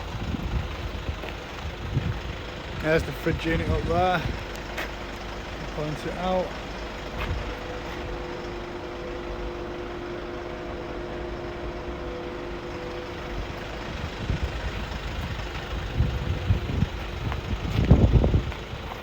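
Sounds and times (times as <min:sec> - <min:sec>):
low bumps: 0:00.0 - 0:10.9, 0:11.5 - 0:19.0
van engine idling: 0:00.0 - 0:19.0.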